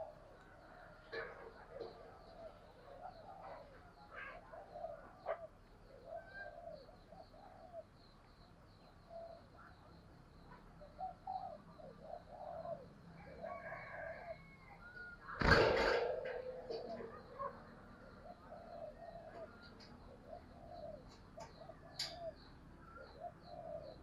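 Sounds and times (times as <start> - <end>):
dove cooing: 0.0 - 7.9, 10.8 - 24.0.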